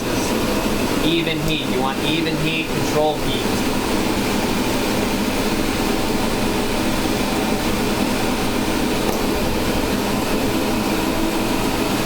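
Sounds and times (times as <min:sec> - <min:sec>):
hand torch burning with rushing noise: 0:00.0 - 0:12.0.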